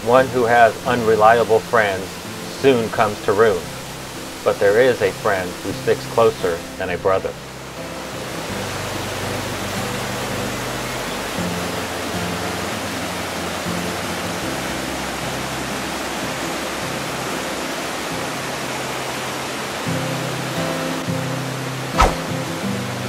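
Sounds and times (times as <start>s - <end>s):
soft background music: 0.0s - 23.0s
water rushing in stream: 0.0s - 23.0s.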